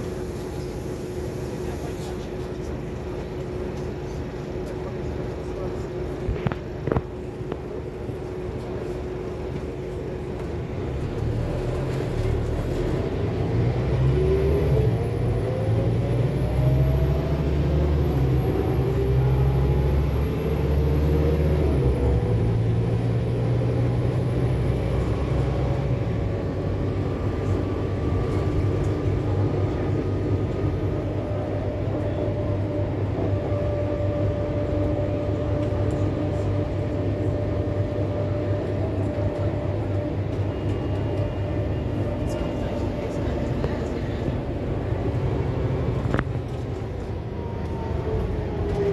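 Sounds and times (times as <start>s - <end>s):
bus diesel engine rumbling: 0.0s - 48.9s
rising engine whine: 8.6s - 48.9s.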